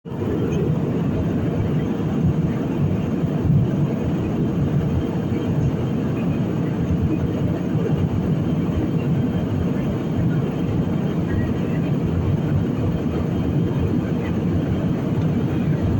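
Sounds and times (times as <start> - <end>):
airliner cabin drone: 0.0 - 15.9.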